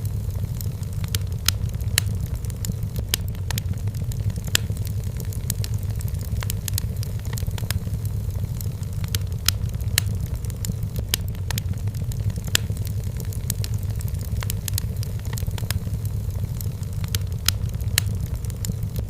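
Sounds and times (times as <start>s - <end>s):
firewood crackling and popping: 0.0s - 19.0s
low rumble: 0.0s - 19.0s.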